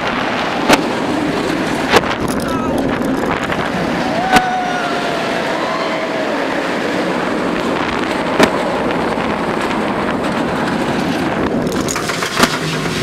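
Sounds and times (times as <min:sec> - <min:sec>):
roller coaster train rumbling: 0:00.0 - 0:13.0.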